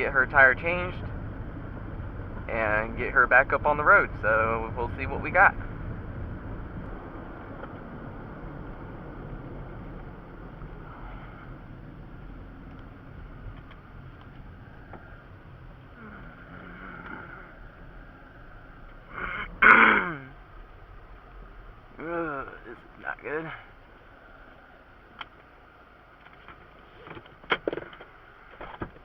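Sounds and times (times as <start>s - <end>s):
vehicle road noise rumble: 0.0s - 29.0s.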